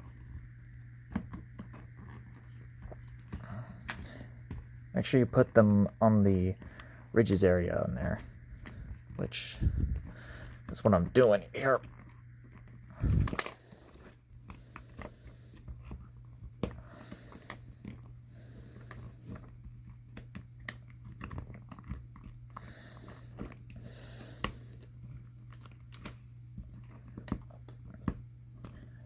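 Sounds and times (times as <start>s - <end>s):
rubber and plastic parts clicking: 0.0s - 29.0s.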